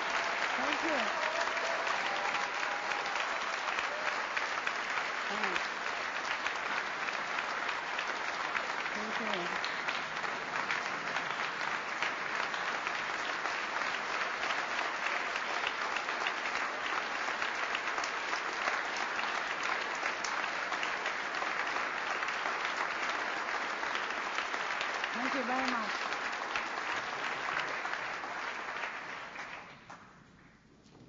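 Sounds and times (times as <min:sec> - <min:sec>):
audience applauding: 0:00.0 - 0:30.6.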